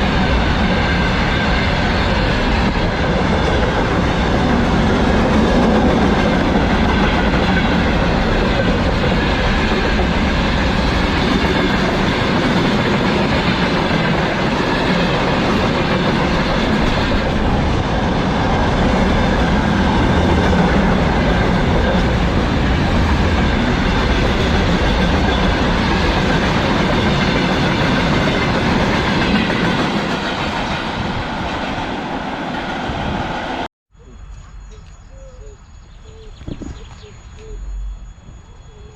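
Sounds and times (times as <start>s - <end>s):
train wheels clattering over rails: 0.0s - 31.8s.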